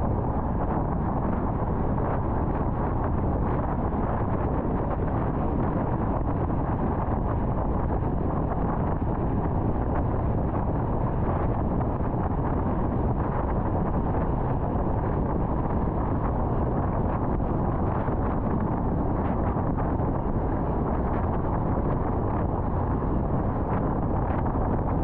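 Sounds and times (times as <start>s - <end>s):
car tyre and wind noise: 0.0s - 25.0s.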